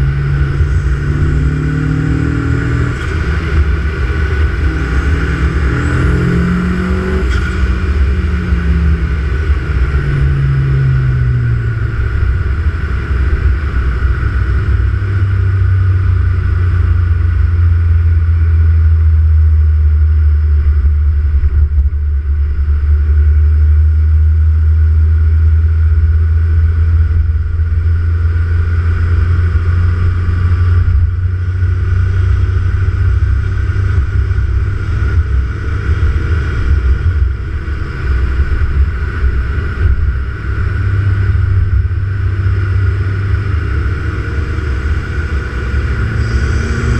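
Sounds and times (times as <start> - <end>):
car engine revving down: 0.0 - 46.9.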